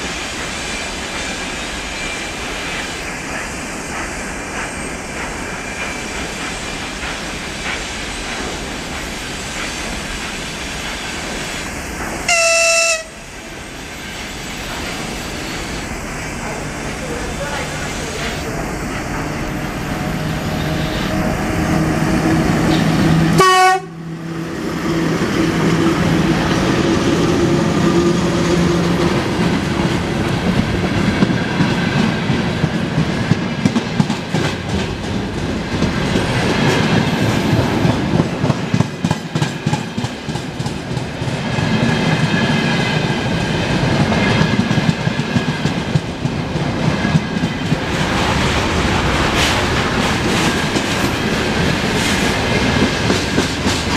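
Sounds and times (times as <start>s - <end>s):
electric locomotive hum: 0.0s - 53.9s
train wheels clacking on rails: 0.0s - 53.9s.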